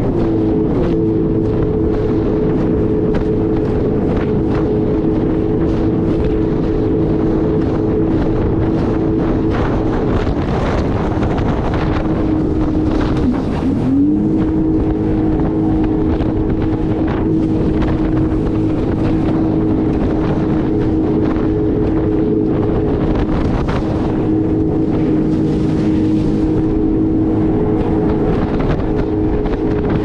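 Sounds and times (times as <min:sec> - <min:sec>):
jet ski engine running: 0:00.0 - 0:30.0
water noise: 0:00.0 - 0:30.0
wind on microphone: 0:00.0 - 0:30.0.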